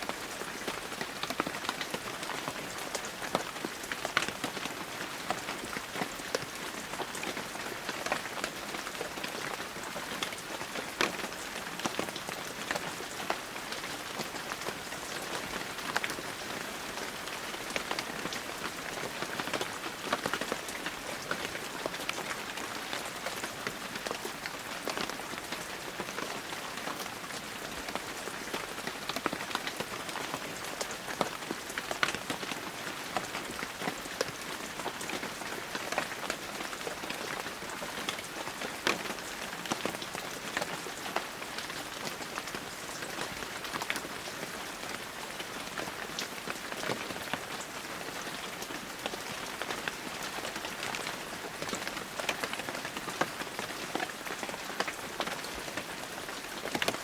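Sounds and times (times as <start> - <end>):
raindrops splattering on surfaces: 0.1 - 57.0.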